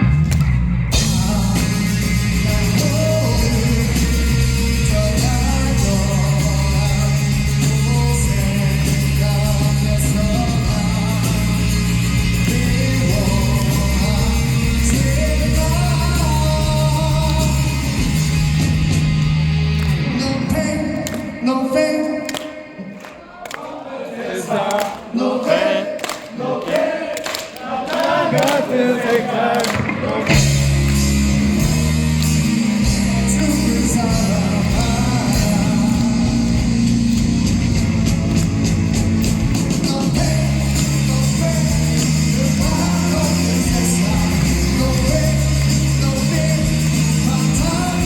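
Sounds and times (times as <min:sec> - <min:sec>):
live rock band playing: 0:00.0 - 0:22.8, 0:29.6 - 0:48.0
person singing lead vocal: 0:00.9 - 0:18.5, 0:19.9 - 0:38.4, 0:39.6 - 0:48.0.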